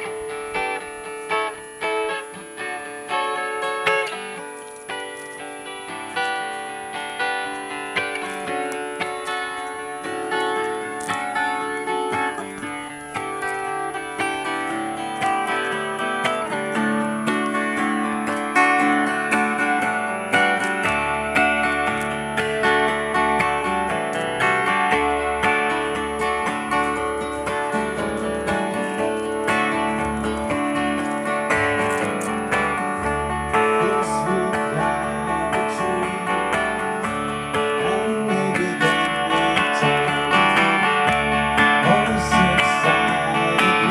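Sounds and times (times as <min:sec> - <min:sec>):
acoustic guitars strummed: 0:00.0 - 0:43.9.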